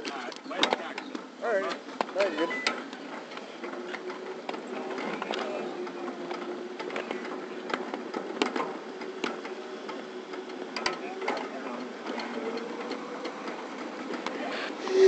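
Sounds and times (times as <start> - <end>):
wheels clicking on rails: 0.0 - 15.0
miniature train whine: 2.2 - 15.0.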